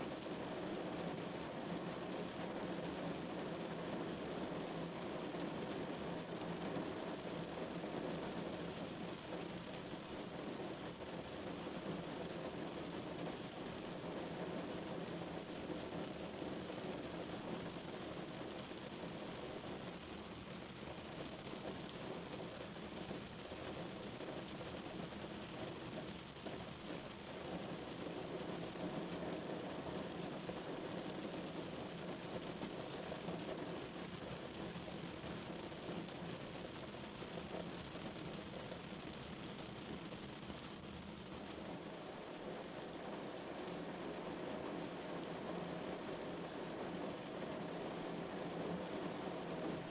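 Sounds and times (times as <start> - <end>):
rain pattering on a car: 0.0 - 49.9.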